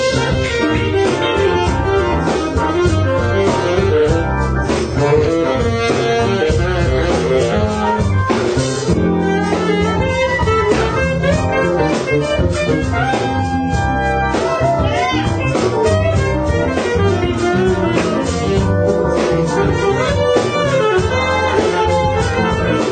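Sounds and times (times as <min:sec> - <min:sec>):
blues guitar: 0:00.0 - 0:22.9
drum kit: 0:00.0 - 0:22.9.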